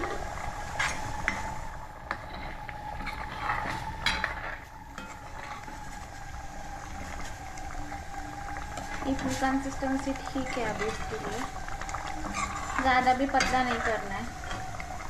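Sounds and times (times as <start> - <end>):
metal ladle scraping a pan: 0.0 - 6.1, 6.8 - 15.0
thick curry simmering: 0.0 - 15.0.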